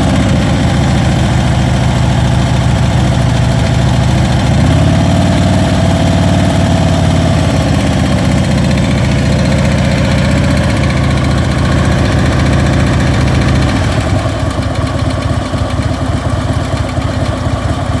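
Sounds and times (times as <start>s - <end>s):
engine ticking noise: 0.0s - 18.0s
motorcycle engine idling: 0.0s - 18.0s.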